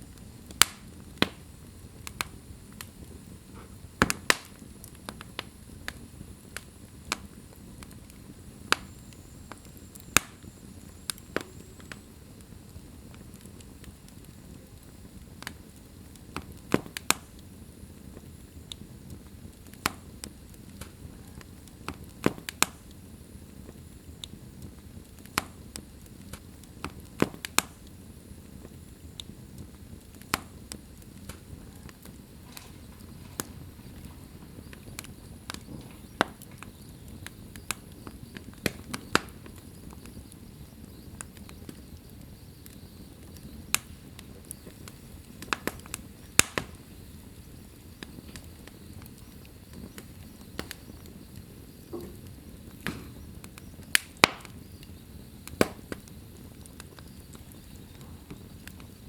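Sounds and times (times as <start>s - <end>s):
fire crackles and pops: 0.0s - 59.0s
fire flames hissing: 0.0s - 59.0s.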